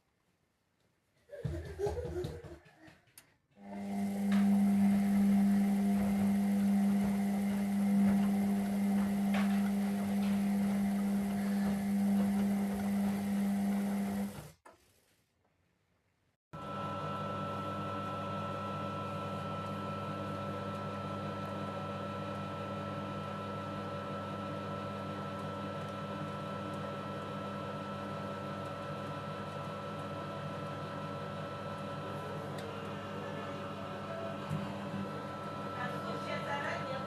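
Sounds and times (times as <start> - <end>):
washing machine humming: 1.3 - 2.9, 3.5 - 14.6, 16.6 - 37.0.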